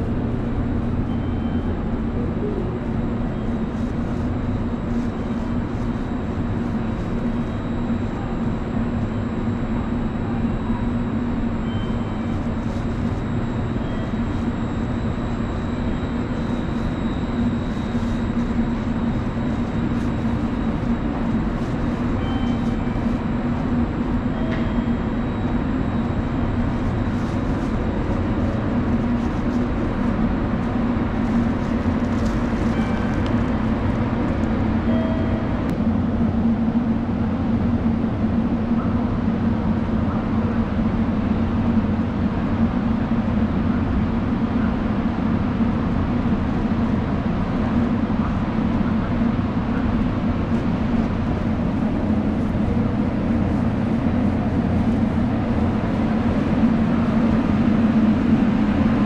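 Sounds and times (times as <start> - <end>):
electric train humming: 0.0 - 59.0.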